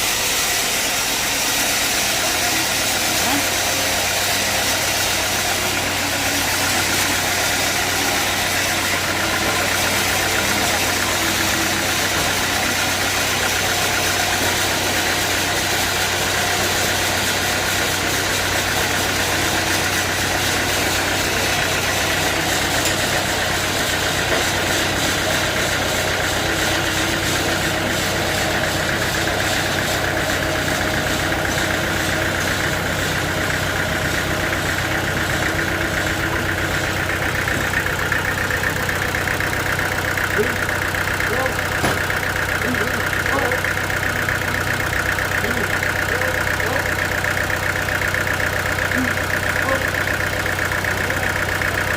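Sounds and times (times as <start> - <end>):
dense mechanical noise: 0.0 - 51.9
high machinery whine: 0.0 - 51.9.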